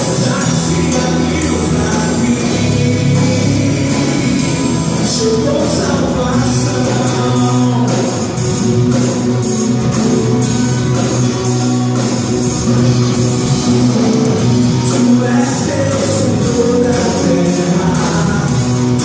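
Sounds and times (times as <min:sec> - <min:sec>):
bass guitar: 0:00.0 - 0:19.0
drum kit steady beat: 0:00.0 - 0:19.0
electric guitar: 0:00.0 - 0:19.0.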